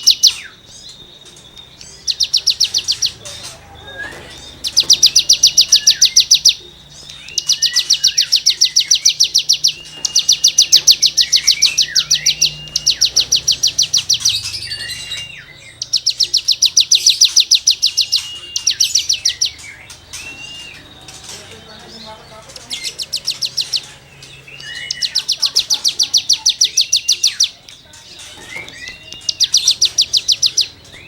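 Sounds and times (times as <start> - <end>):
songbird buzzy trills: 0.0 - 31.0.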